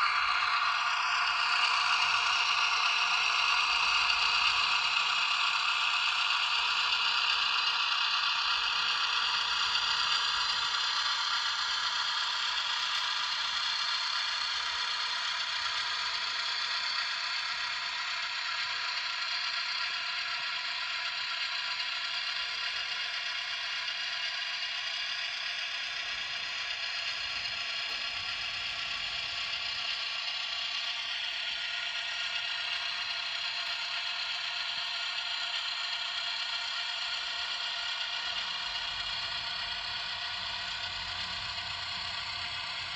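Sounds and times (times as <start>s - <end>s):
small motor whirring: 0.0s - 42.9s.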